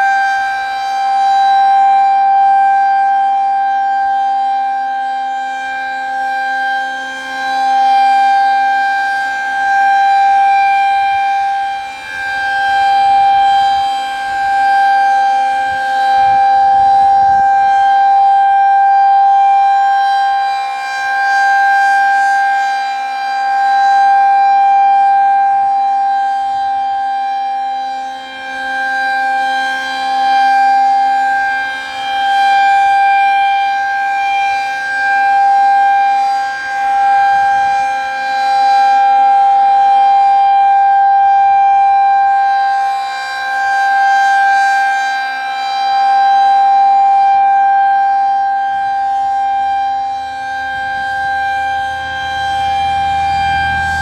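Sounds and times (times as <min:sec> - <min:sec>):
rotating siren steady tone: 0:00.0 - 0:54.0.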